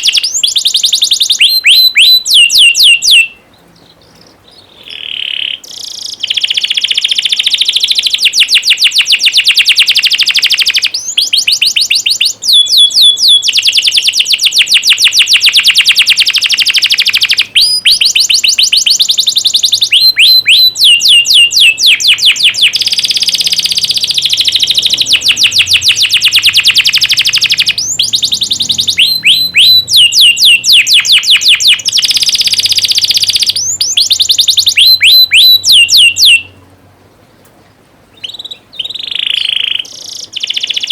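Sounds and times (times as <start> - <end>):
canary singing trills: 0.0 - 36.7, 38.1 - 40.9.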